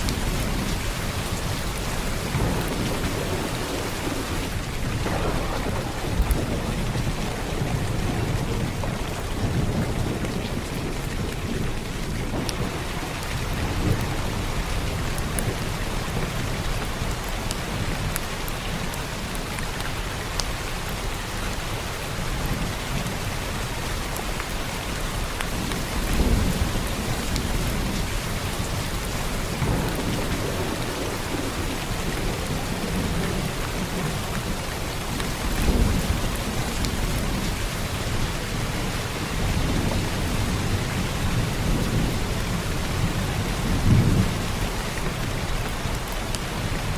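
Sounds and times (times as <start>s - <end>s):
low thunder rumbles: 0.0s - 19.4s, 22.2s - 46.9s
heavy rain falling: 0.0s - 46.9s.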